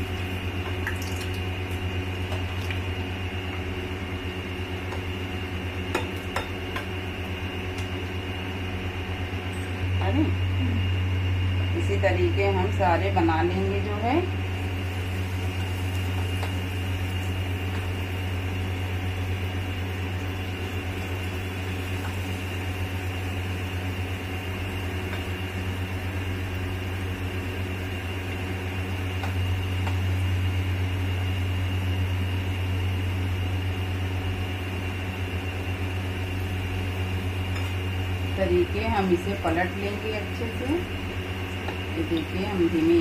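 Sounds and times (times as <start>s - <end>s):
food deep-frying in hot oil: 0.0s - 8.4s, 13.8s - 43.0s
low mechanical motor hum: 0.0s - 43.0s.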